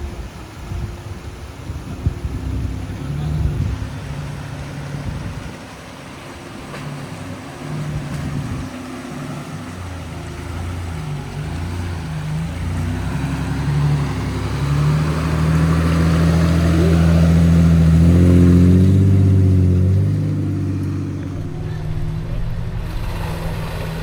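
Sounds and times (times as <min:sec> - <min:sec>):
vehicle engine under load: 0:00.8 - 0:24.0.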